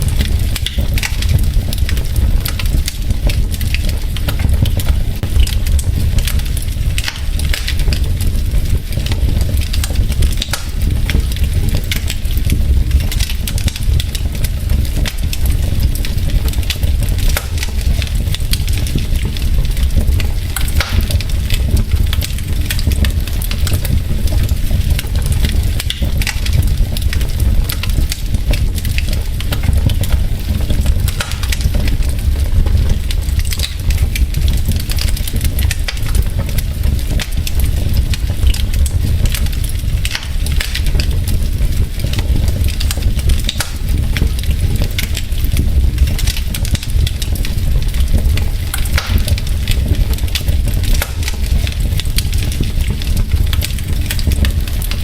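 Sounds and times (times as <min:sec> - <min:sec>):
wood logs crackling in fireplace: 0:00.0 - 0:55.0.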